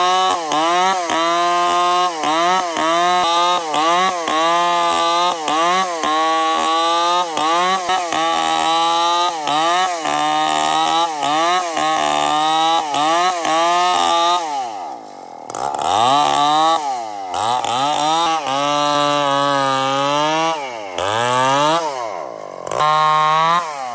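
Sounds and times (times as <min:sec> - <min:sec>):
chainsaw cutting wood: 0:00.0 - 0:23.9.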